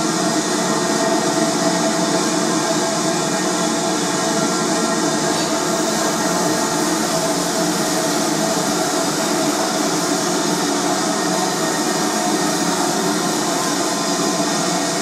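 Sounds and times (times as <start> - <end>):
idling locomotive hiss and hum: 0.1 - 15.0.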